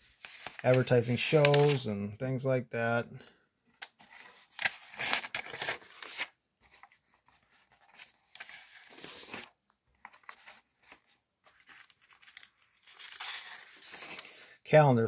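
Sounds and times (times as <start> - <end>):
magazine pages turning: 0.0 - 1.9, 3.8 - 14.4
paper handling: 0.1 - 1.8, 3.9 - 14.3.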